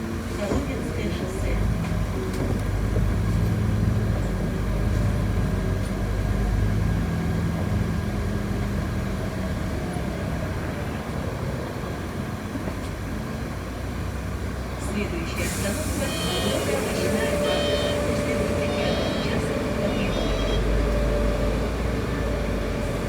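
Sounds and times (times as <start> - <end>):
bus engine drone: 0.0 - 23.0
road noise: 0.0 - 23.0.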